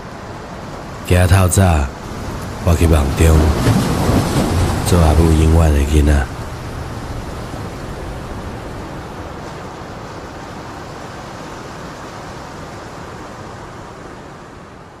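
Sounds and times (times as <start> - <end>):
steady rushing noise: 0.0 - 12.9.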